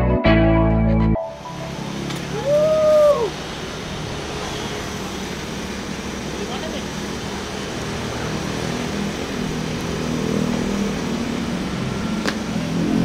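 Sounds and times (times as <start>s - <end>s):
street traffic: 1.0s - 13.0s
diesel engine idling: 1.3s - 13.0s.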